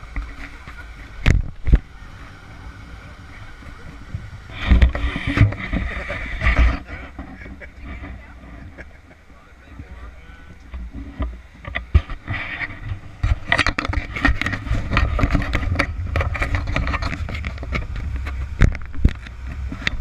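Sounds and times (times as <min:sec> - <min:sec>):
boat engines rumbling: 0:00.0 - 0:20.0.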